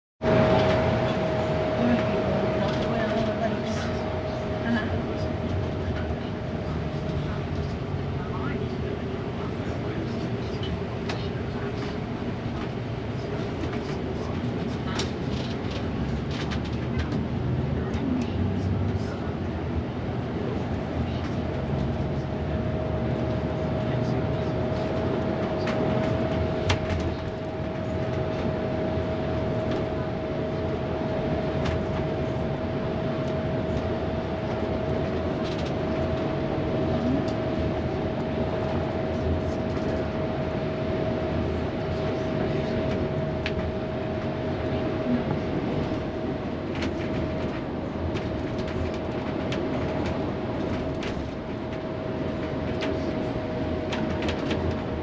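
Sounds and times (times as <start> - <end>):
mid-pitched whine: 0.2 - 55.0
ship engine hum: 0.2 - 55.0.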